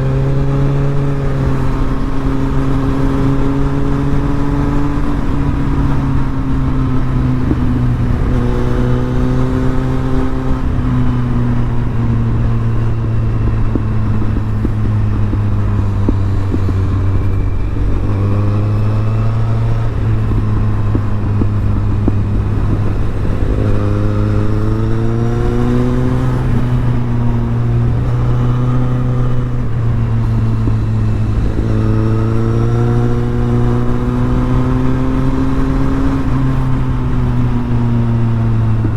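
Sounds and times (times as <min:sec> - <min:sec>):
motorcycle engine exhaust note: 0:00.0 - 0:38.9.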